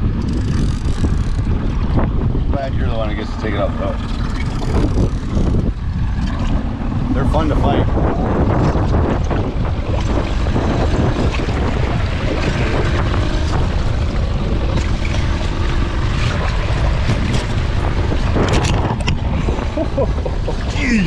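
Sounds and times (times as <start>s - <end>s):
boat motor running: 0.0s - 21.0s
water against hull: 0.0s - 21.0s
wind rumble on microphone: 0.0s - 21.0s.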